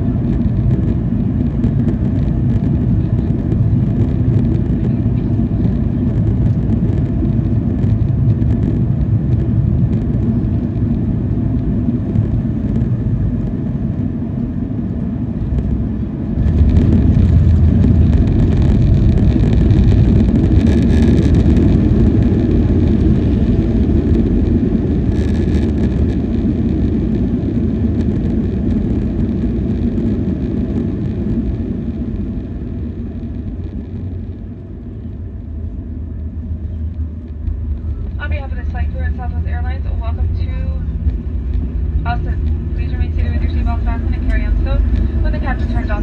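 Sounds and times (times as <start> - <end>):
airplane cabin engine noise: 0.0 - 46.0.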